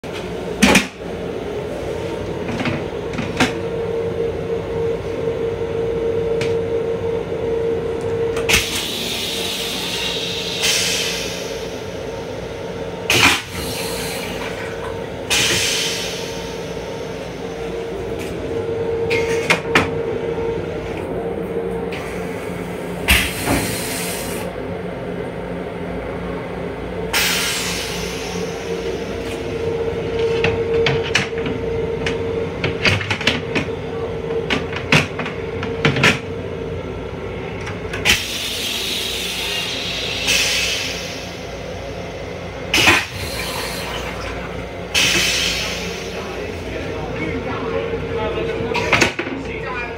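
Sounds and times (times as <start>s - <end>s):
train car running hum: 0.0s - 49.9s.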